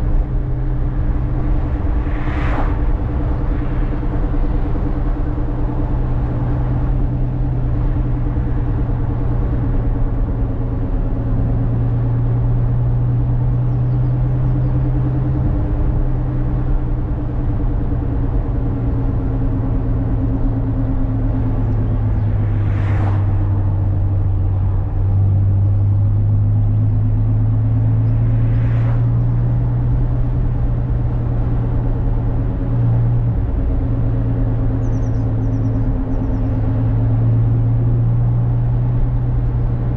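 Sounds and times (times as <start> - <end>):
car engine droning: 0.0 - 39.9
tyre and road noise: 0.0 - 39.9.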